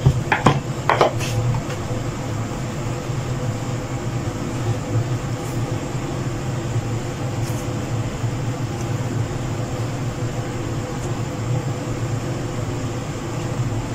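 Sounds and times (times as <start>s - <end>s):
low mechanical hum: 0.0s - 13.9s.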